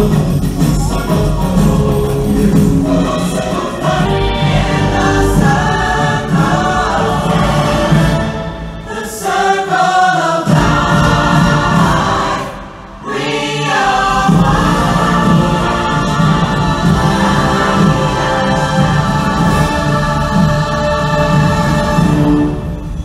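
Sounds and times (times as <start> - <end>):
choir singing with musical backing: 0.0 - 23.0.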